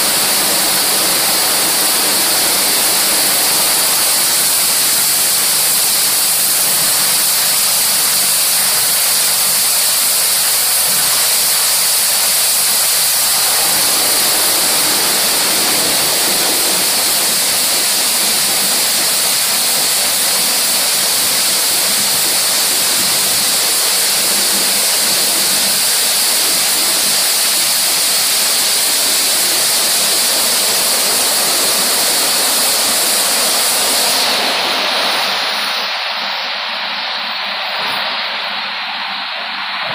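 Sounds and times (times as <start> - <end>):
rotating brushes scrubbing car: 0.0 - 35.8
water spray rushing hiss: 0.0 - 39.9.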